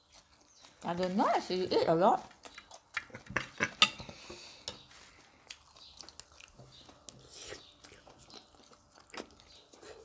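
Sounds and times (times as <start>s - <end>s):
people chewing and eating: 0.0s - 10.0s.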